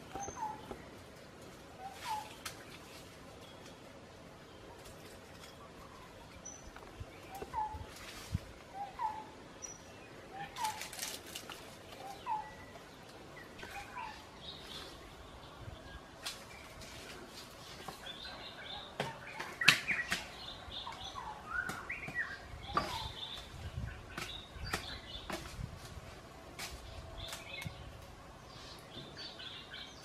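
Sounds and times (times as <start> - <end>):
dry leaves and twigs crackling: 0.0 - 30.0
forest birds calling: 0.0 - 30.0.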